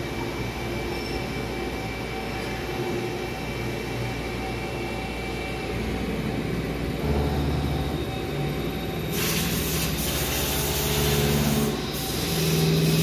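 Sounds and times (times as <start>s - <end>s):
machine whining tones: 0.0s - 13.0s
machinery drone: 0.0s - 13.0s.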